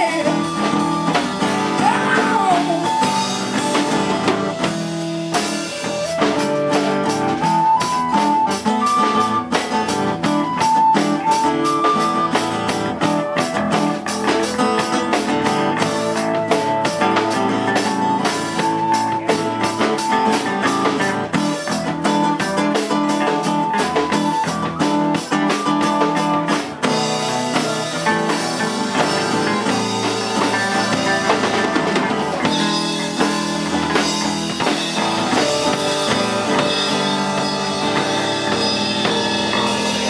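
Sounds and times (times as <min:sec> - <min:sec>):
drum kit: 0:00.0 - 0:40.0
electric bass: 0:00.0 - 0:40.0
flute melody notes: 0:00.0 - 0:40.0
strummed acoustic guitar: 0:00.0 - 0:40.0.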